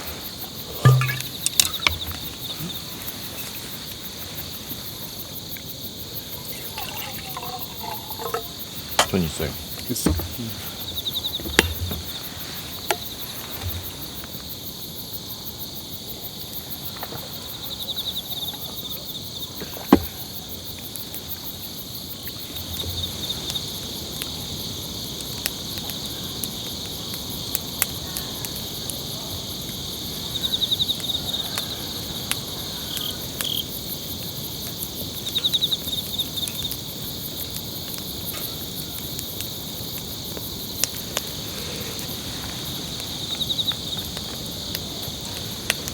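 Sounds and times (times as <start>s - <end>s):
insects chirping: 0.0s - 45.9s.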